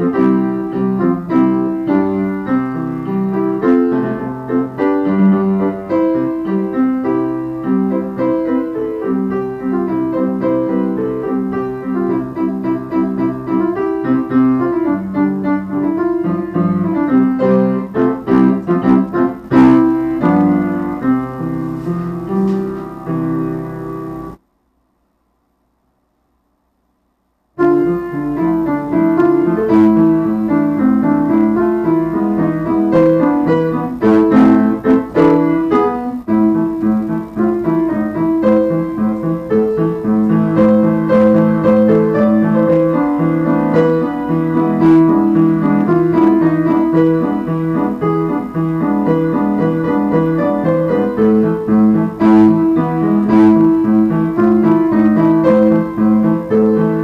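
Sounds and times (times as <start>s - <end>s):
piano playing a carol: 0.0s - 24.4s, 27.6s - 57.0s.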